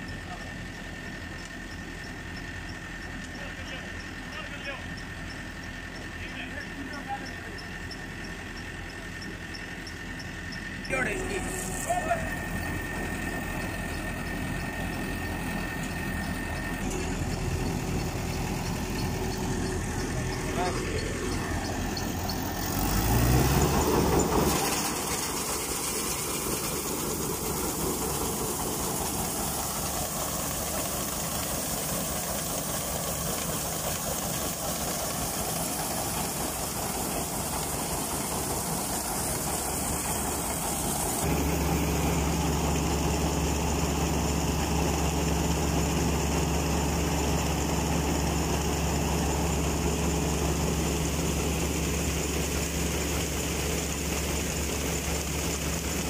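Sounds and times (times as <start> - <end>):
combine harvester engine: 0.0 - 56.0
grain unloading auger running: 0.0 - 56.0.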